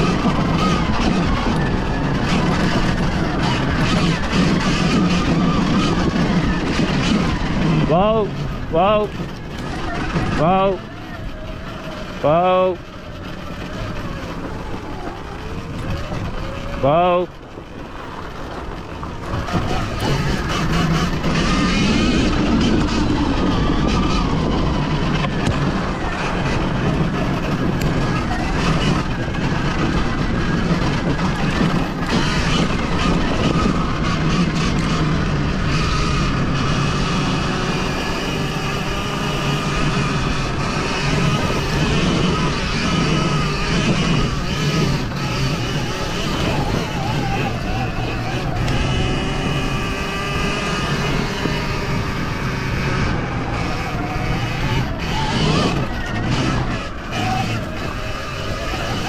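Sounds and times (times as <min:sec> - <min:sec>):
electric dirt bike riding: 0:00.0 - 0:59.0.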